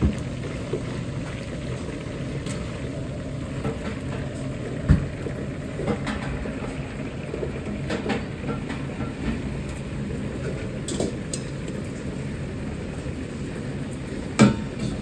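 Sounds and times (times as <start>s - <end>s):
gas burner low rush: 0.0s - 15.0s
oil frying: 0.0s - 15.0s.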